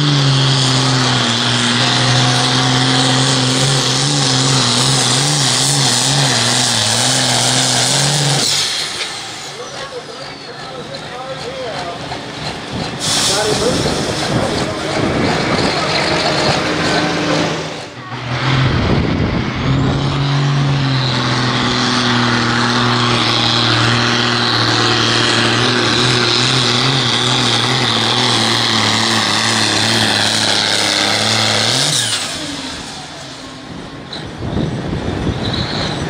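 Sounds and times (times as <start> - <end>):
high turbo whine: 0.0 - 36.0
tractor diesel engine full throttle: 0.0 - 36.0.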